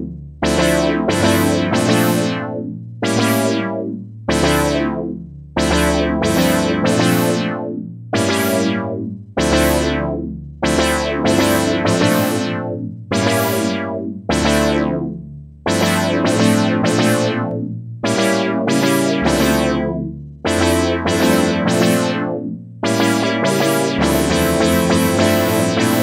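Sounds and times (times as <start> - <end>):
synthesizer chords: 0.0 - 26.0.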